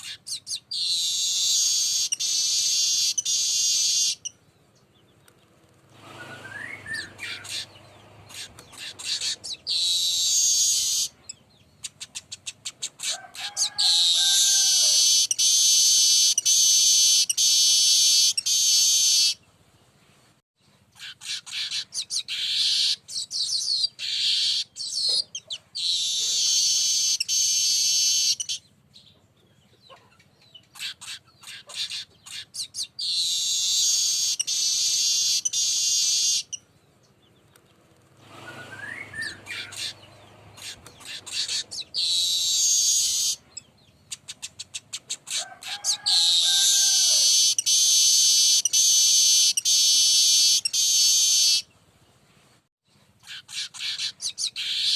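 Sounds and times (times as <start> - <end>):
bird song with buzzing phrases: 0.0 - 52.2, 52.8 - 54.9.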